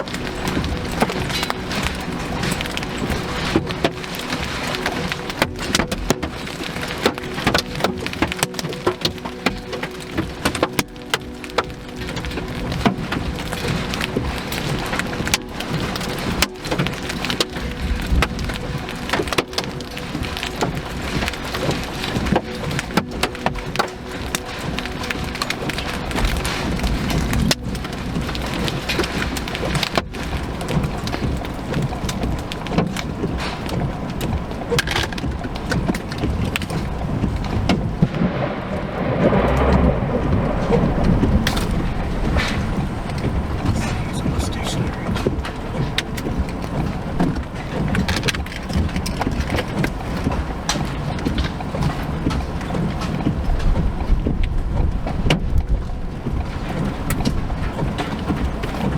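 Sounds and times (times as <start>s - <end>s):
heavy rain pelting a vehicle: 0.0s - 58.9s.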